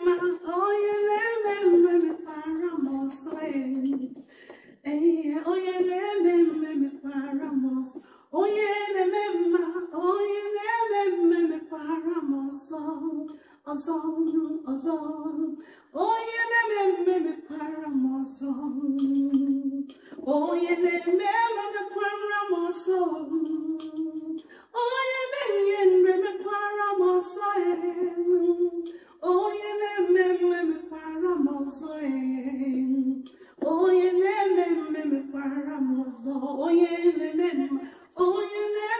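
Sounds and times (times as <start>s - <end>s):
woman singing unaccompanied: 0.0s - 38.9s.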